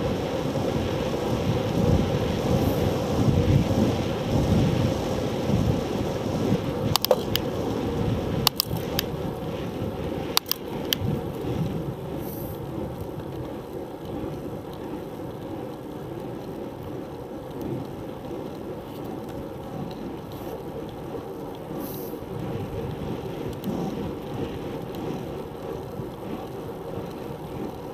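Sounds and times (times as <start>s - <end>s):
bicycle road rumble: 0.0s - 27.9s
wind: 0.0s - 27.9s.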